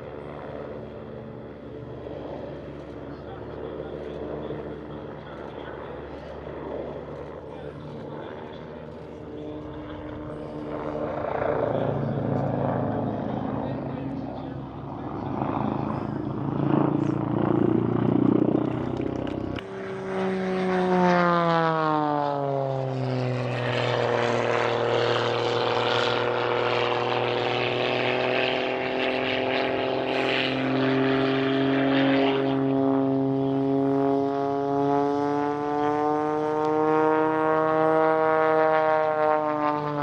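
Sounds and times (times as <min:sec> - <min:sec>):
propeller airplane engine droning: 0:00.0 - 0:40.0.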